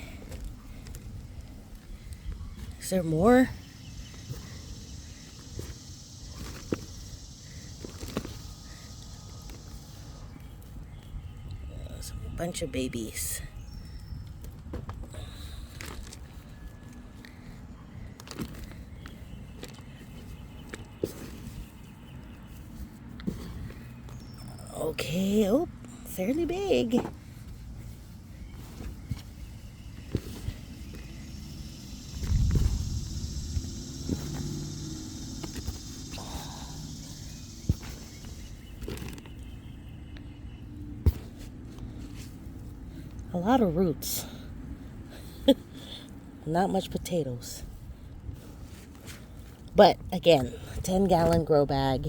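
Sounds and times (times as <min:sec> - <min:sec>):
hands rustling in soil: 0:00.0 - 0:12.1, 0:13.0 - 0:43.4.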